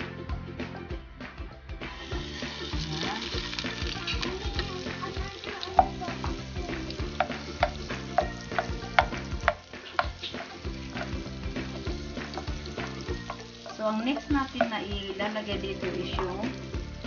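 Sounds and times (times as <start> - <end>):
butter sizzling in a pan: 1.9 - 17.0
spatula scraping and tapping pan: 2.2 - 16.9.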